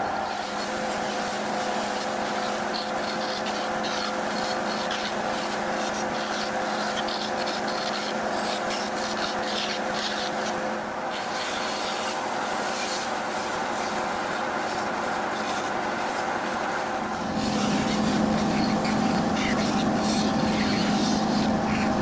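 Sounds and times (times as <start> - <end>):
bandsaw motor hum: 0.0 - 22.0.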